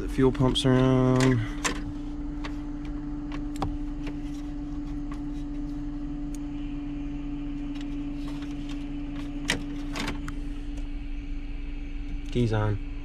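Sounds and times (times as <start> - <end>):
electric fuel pumps humming: 0.0 - 13.0.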